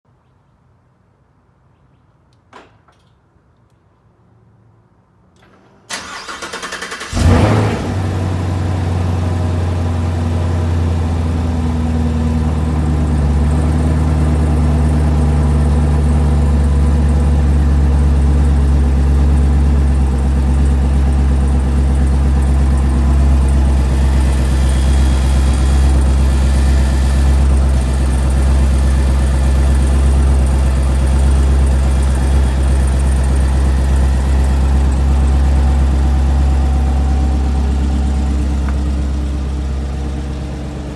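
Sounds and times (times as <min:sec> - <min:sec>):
car engine cold start: 0:05.4 - 0:40.9
car engine fast idle: 0:05.6 - 0:40.9.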